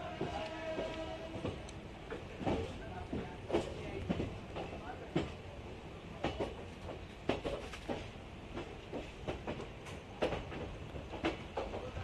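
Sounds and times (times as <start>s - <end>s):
train coach rumbling: 0.0s - 12.0s.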